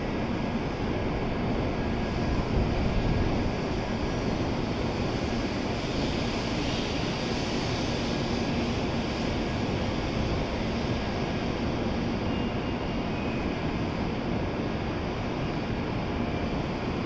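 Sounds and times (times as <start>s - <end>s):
train standing with equipment running: 0.0s - 17.0s.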